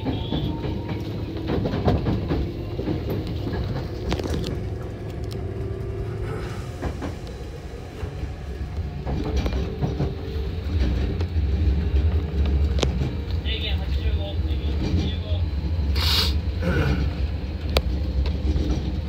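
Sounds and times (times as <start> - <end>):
wheels clicking over rail joints: 0.0 - 7.4, 8.8 - 19.0
steady train hum: 0.0 - 19.0
train wheels rumbling on rails: 0.0 - 19.0.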